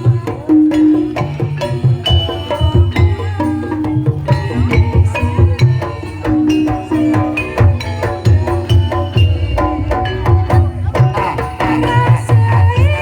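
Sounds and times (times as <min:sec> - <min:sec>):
hand drums beating: 0:00.0 - 0:13.0
struck metallophone tones: 0:00.0 - 0:13.0.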